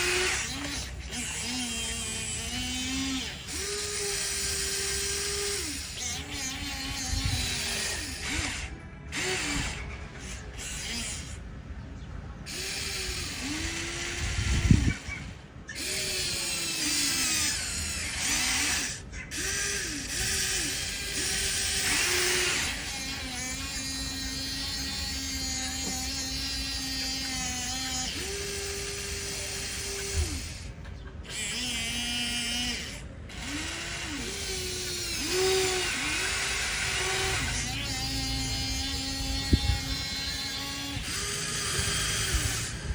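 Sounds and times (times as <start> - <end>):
toy electric motors whining: 0.0 - 42.9.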